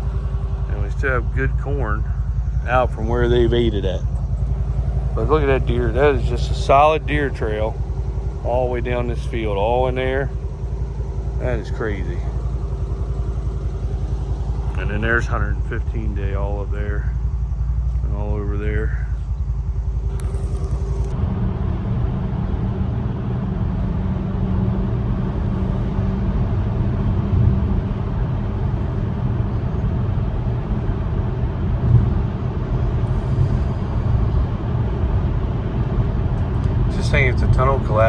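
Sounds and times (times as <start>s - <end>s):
vehicle road rumble: 0.0s - 38.0s.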